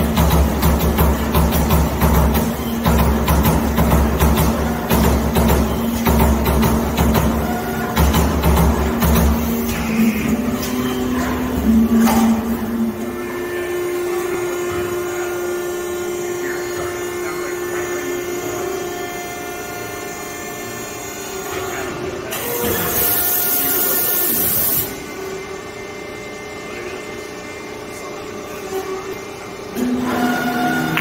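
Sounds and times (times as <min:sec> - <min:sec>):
machine mechanical hum: 0:00.0 - 0:31.0.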